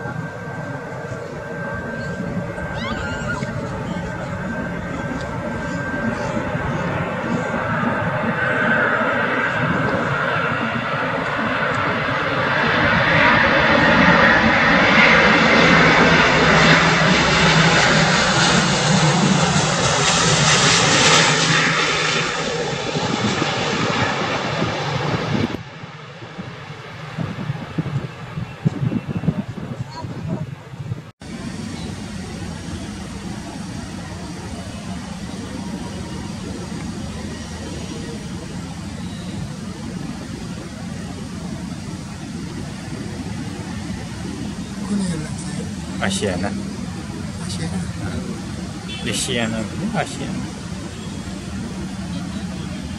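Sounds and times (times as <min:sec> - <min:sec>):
jet aircraft roar passing: 0:00.0 - 0:52.9.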